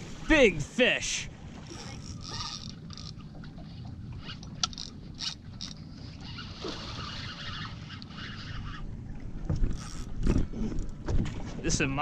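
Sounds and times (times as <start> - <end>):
water slapping boat hull: 0.0 - 12.0.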